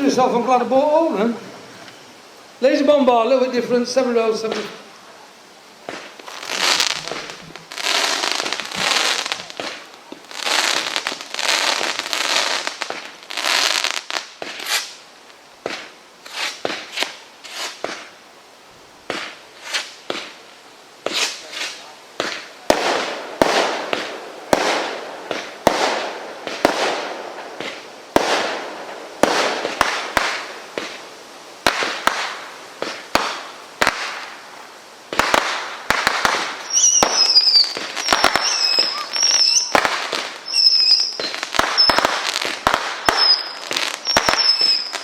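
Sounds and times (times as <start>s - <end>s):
firework bangs with crackling hiss: 0.0s - 18.2s, 19.0s - 45.0s
firework whistling: 5.8s - 15.0s, 15.7s - 18.1s, 19.1s - 20.4s, 21.0s - 45.0s.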